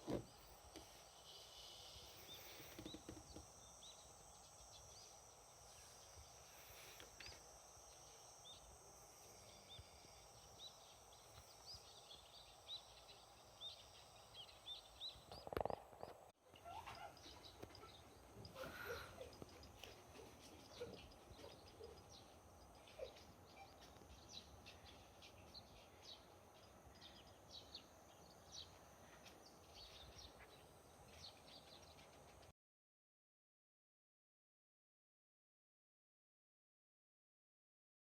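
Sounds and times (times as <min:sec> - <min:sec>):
small birds chirping: 0:00.1 - 0:32.5.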